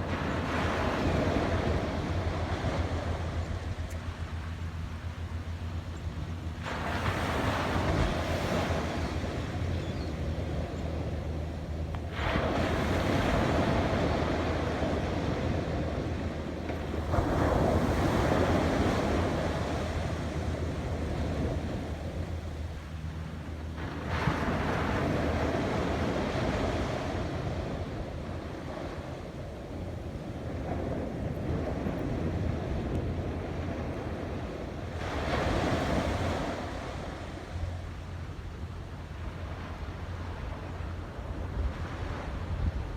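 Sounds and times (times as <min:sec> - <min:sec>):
waves crashing on beach: 0:00.0 - 0:42.9.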